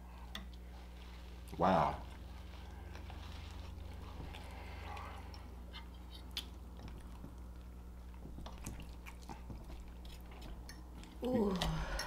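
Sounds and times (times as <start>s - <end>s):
steady low hum: 0.0s - 12.0s
quiet chewing: 0.1s - 12.0s.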